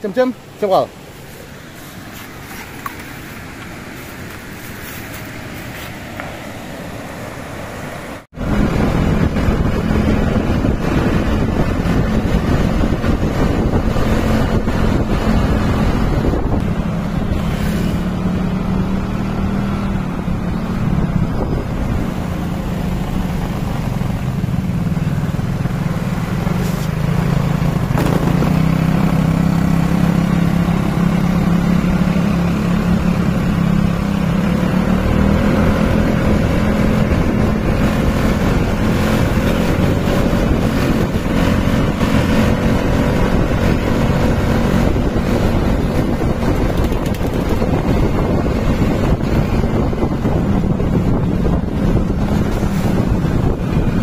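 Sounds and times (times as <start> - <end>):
wind buffeting microphone: 8.1 - 54.0
motorcycle engine running: 8.3 - 54.0.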